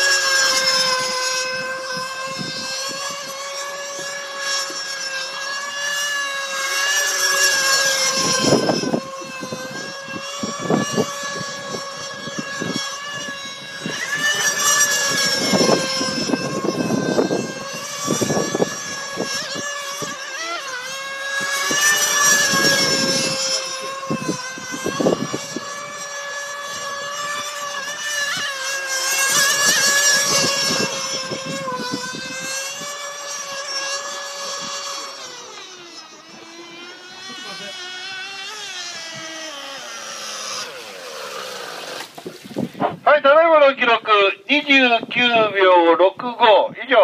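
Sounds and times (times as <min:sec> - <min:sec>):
model boat engine whine: 0:00.0 - 0:47.0.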